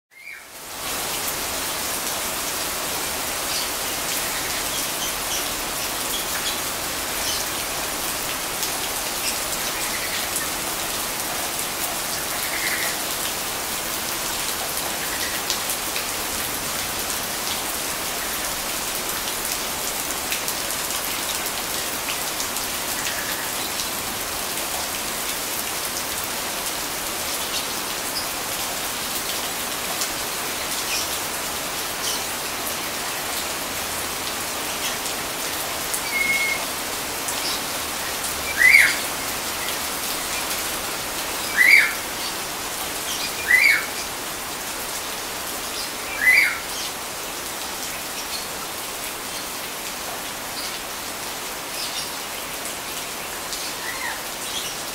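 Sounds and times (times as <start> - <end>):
steady rain falling: 0.1 - 54.9.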